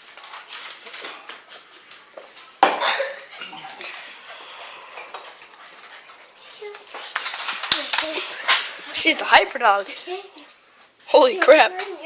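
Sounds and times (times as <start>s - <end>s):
hard objects clattering: 0.0s - 9.8s.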